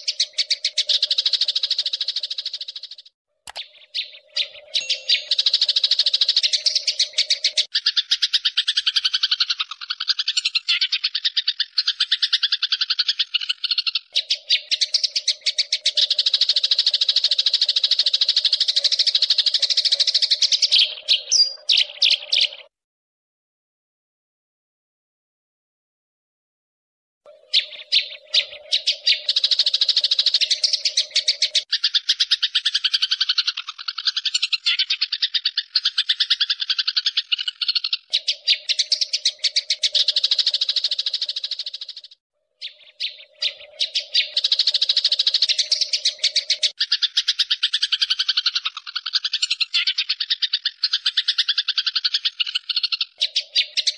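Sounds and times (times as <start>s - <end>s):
small bird chirping: 0.0s - 22.7s, 27.3s - 53.9s.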